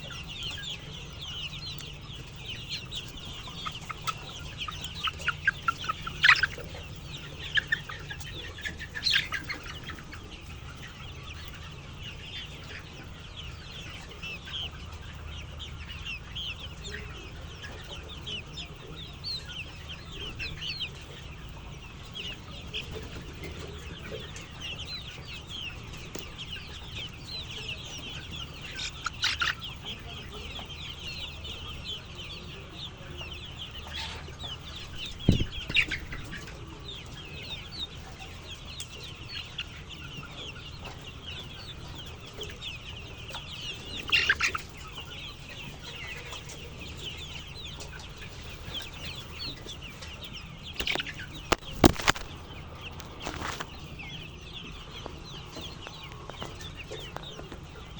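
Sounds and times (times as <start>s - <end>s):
chickens calling: 0.0s - 57.9s.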